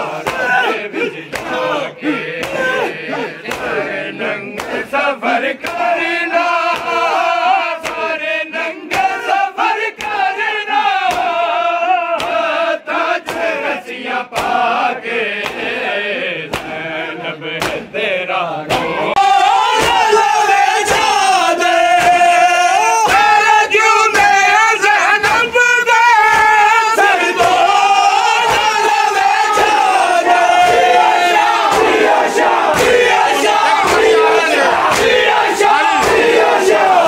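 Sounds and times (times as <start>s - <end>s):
men chanting a lament: 0.0s - 37.0s
men slapping chests in unison: 0.0s - 37.0s.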